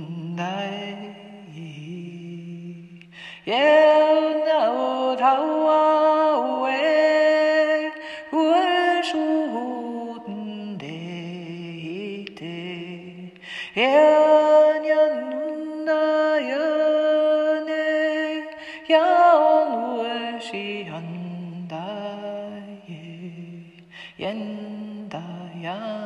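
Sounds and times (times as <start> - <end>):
woman singing wordless chant: 0.0 - 26.0.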